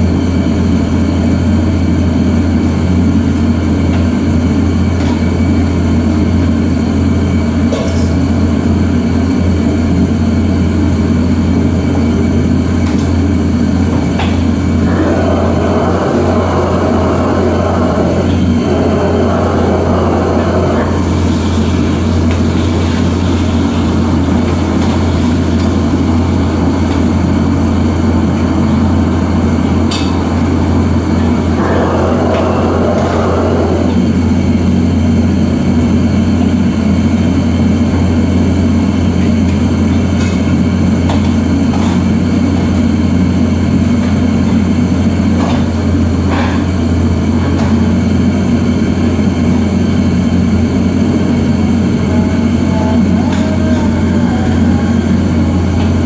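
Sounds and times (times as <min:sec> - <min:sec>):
exhaust hood humming: 0:00.0 - 0:56.0
gas burner roaring: 0:00.0 - 0:56.0.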